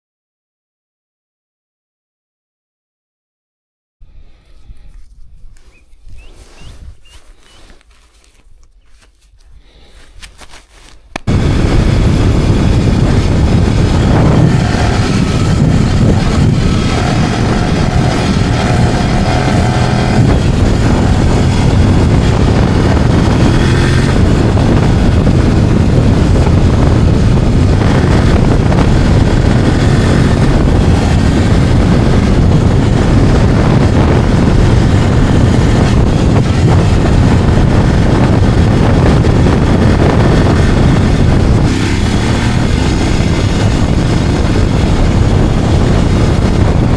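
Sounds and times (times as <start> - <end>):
wind noise on microphone: 4.0 - 46.9
motorcycle engine running: 4.8 - 46.9.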